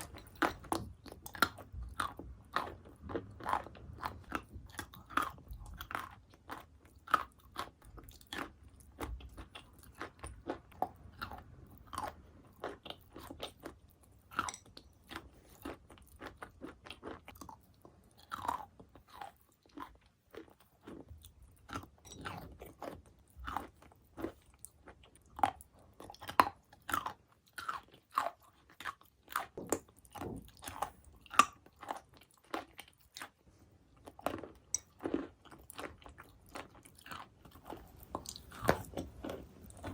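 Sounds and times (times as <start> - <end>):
crunching and chewing chalk: 0.0 - 39.9.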